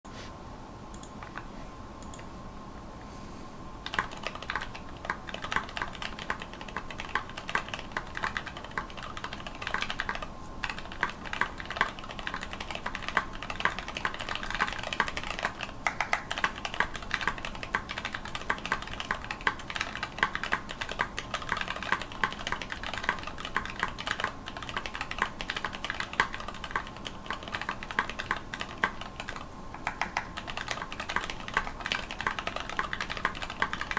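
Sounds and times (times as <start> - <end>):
mechanical keyboard typing: 3.8 - 33.9.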